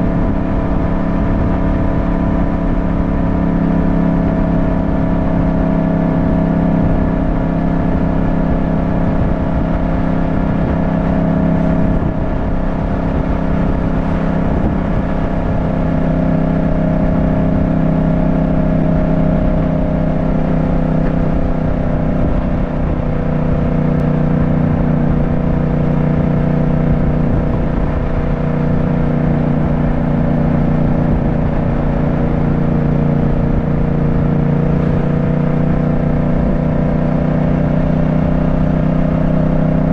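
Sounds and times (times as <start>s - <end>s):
low rumbling wind noise: 0.0s - 39.9s
motorcycle engine running: 0.0s - 39.9s.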